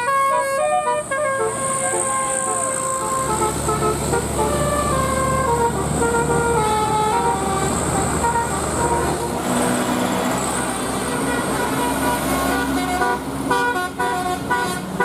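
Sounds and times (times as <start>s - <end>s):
bus engine running: 0.0s - 15.0s
bus horn playing a melody: 0.0s - 15.0s.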